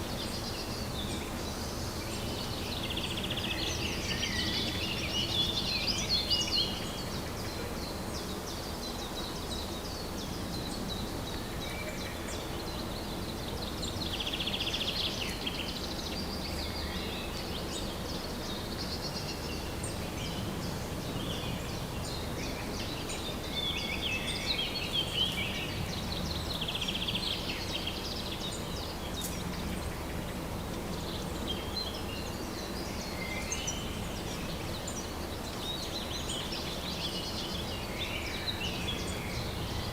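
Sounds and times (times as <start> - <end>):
birds chirping and trilling: 0.0 - 39.9
low background hiss: 0.0 - 39.9.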